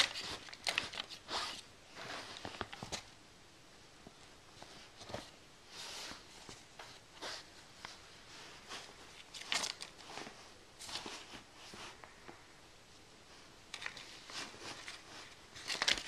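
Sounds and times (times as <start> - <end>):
paper and towel rustling: 0.0 - 3.1, 4.4 - 12.4, 13.2 - 16.0.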